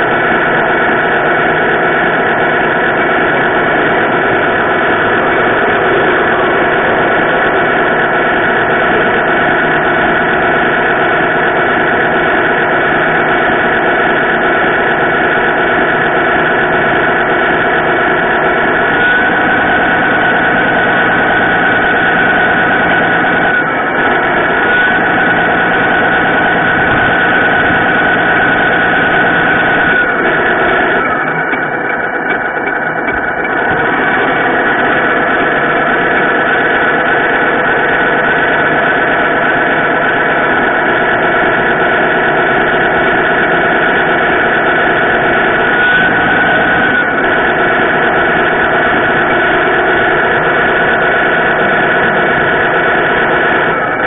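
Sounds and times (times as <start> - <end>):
model truck engine-like drone: 0.0 - 54.0.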